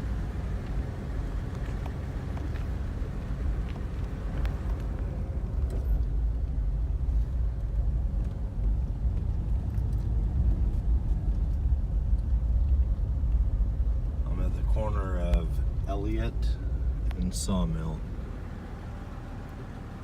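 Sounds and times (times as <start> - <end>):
car driving on road: 0.0 - 20.0.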